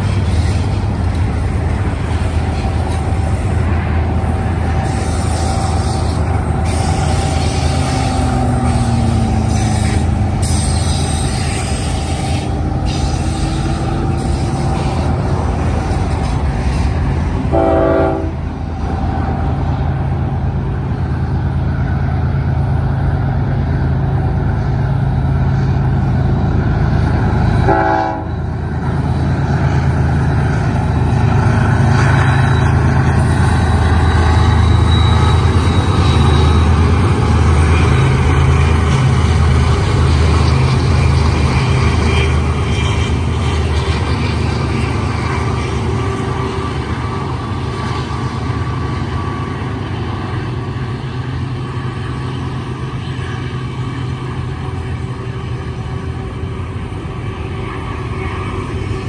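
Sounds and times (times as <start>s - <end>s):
diesel locomotive engines droning: 0.0s - 59.0s
train rumble: 0.0s - 59.0s.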